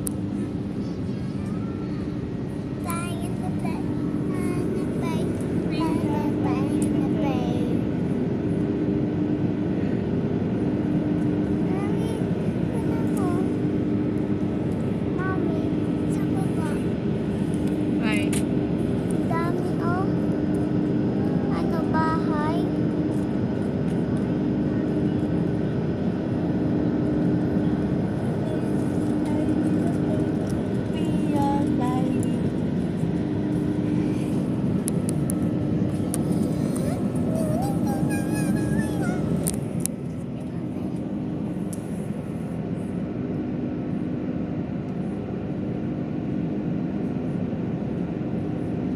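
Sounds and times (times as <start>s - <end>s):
airplane cabin engine drone: 0.0s - 48.9s
faint steady hum: 0.0s - 48.9s.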